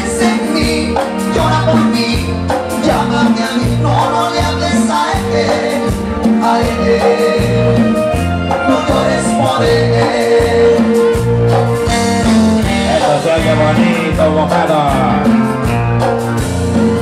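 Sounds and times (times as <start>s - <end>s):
man singing: 0.0s - 15.7s
bass guitar: 0.0s - 17.0s
drum kit: 0.0s - 17.0s
electric guitar: 0.0s - 17.0s.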